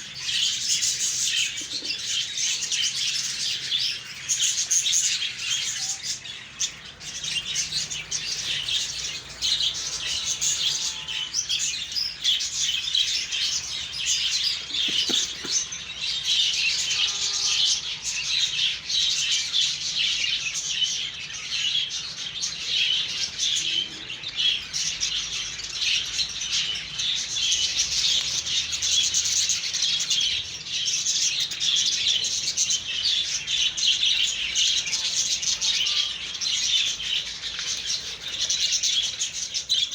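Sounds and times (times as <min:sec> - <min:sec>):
budgerigars chattering: 0:00.0 - 0:18.8, 0:22.6 - 0:39.9.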